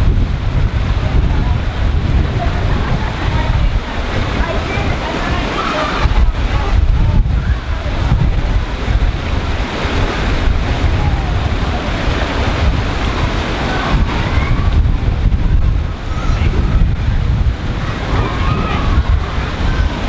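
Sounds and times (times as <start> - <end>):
running water: 0.0 - 20.0
wind buffeting microphone: 0.0 - 20.0.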